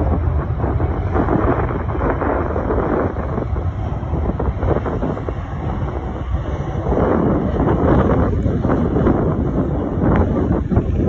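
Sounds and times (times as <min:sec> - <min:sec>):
jet engines roaring: 0:00.0 - 0:11.0
wind buffeting microphone: 0:00.0 - 0:11.0.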